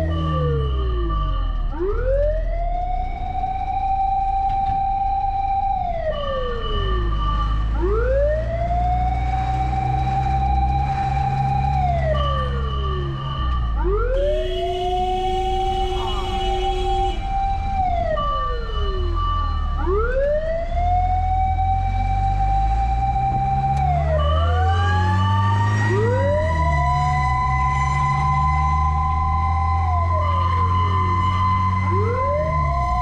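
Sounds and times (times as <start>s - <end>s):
emergency siren wailing: 0.0s - 33.0s.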